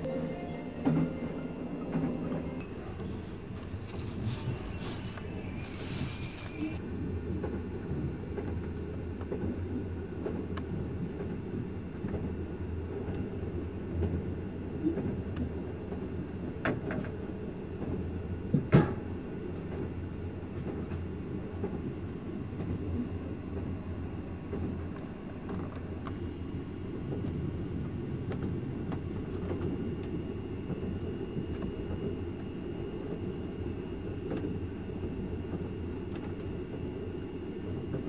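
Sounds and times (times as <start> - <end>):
train carriage rumble: 0.0 - 38.0.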